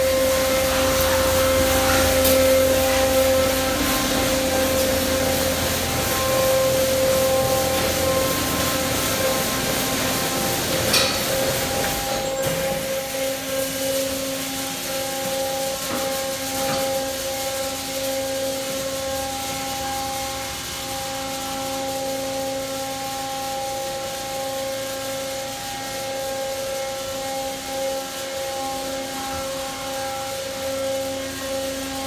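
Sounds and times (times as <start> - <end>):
water spraying onto car: 0.0 - 26.6
wash machinery humming whine: 0.0 - 32.0.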